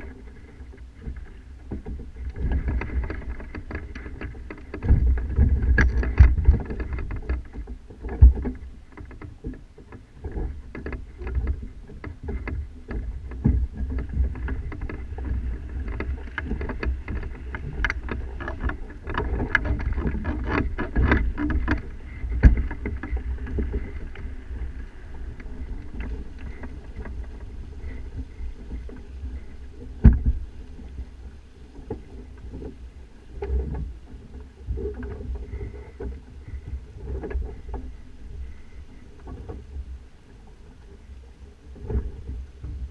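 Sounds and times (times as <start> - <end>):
knocks and clicks from rigging: 0.0 - 41.0, 41.6 - 42.9
steady low rumble: 0.0 - 42.9.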